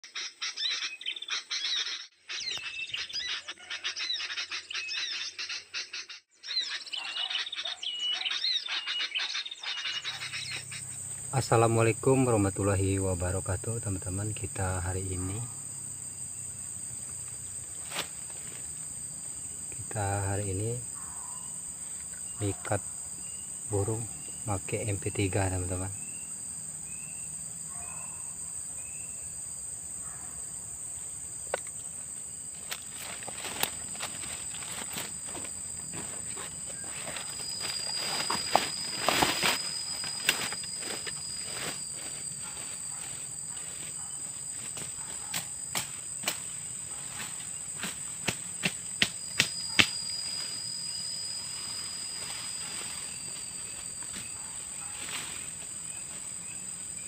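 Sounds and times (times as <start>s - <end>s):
high-pitched insect trilling: 6.5s - 57.0s.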